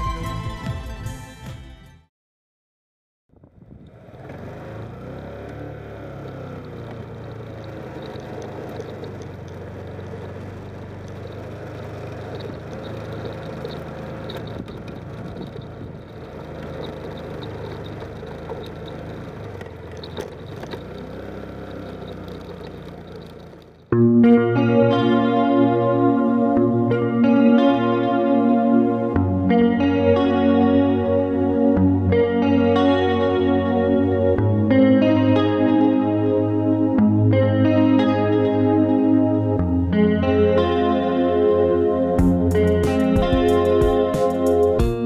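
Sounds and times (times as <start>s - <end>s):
motorcycle engine running: 3.3s - 45.0s
road and wind noise: 3.3s - 45.0s.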